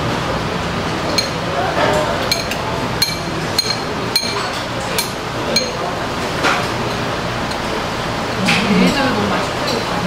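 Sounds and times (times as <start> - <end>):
restaurant background noise: 0.0 - 10.0
utensils clinking on dishes: 1.1 - 7.8, 8.4 - 10.0.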